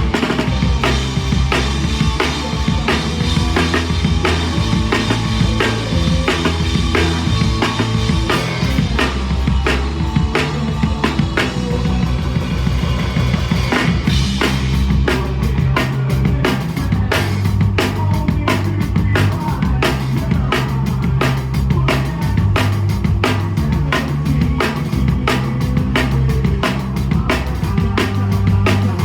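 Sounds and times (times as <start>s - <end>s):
live rock band playing: 0.0s - 29.0s
low bass notes: 0.0s - 29.0s.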